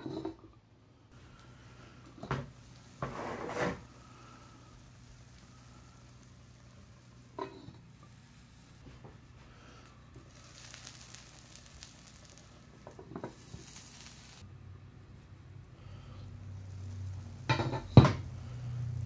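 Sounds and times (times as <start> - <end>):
batter sizzling in hot pan: 1.2 - 14.5, 16.0 - 19.0.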